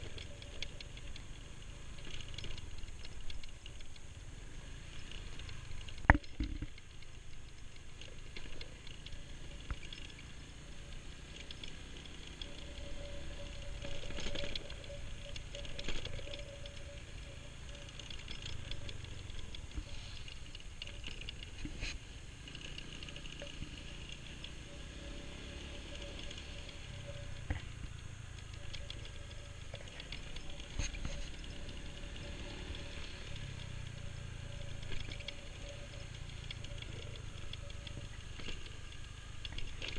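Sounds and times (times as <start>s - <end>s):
small motorbike engine humming: 0.0s - 39.9s
wind and road rumble: 0.0s - 39.9s.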